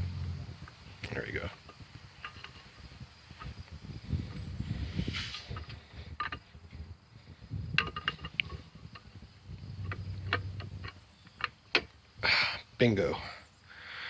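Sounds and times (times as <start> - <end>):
low handling rumble: 0.0 - 12.0.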